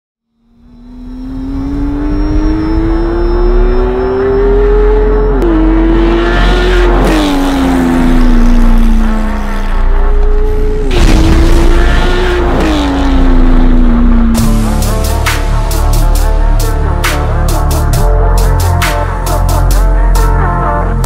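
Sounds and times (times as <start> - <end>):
car engine revving: 0.2 - 21.0.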